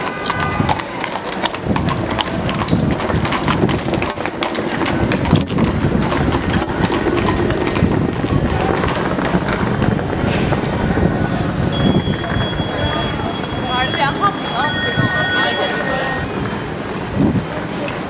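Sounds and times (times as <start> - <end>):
crowd hubbub: 0.0 - 18.0
horse hooves on paving stones: 0.0 - 18.0.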